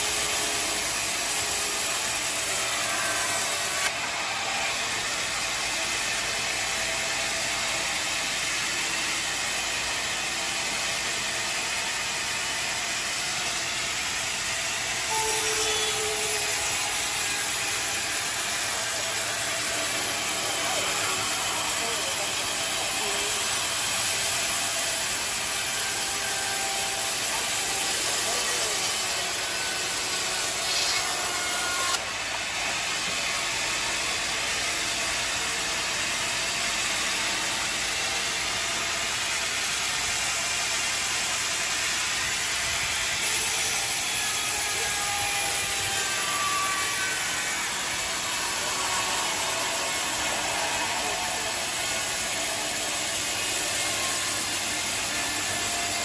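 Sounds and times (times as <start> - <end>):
band sawmill cutting log: 0.0 - 56.0.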